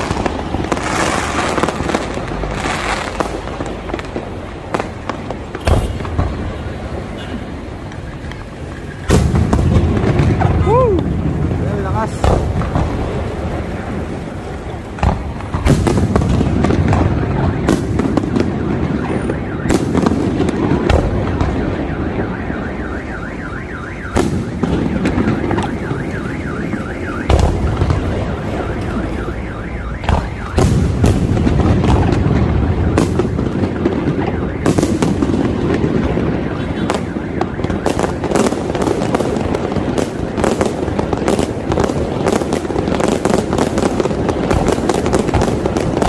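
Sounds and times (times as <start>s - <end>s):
crackle of small explosions: 0.0s - 46.0s.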